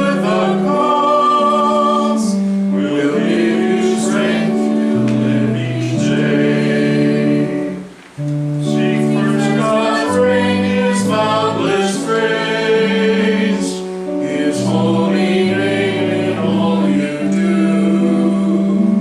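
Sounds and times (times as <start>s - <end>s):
voices singing a hymn: 0.0s - 19.0s.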